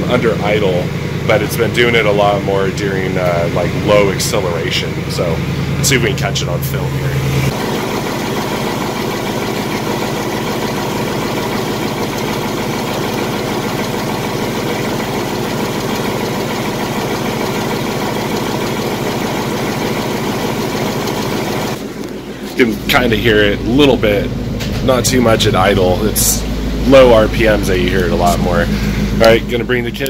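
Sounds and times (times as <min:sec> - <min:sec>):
car engine idling: 0:00.0 - 0:30.0
faint engine ticking: 0:00.0 - 0:30.0.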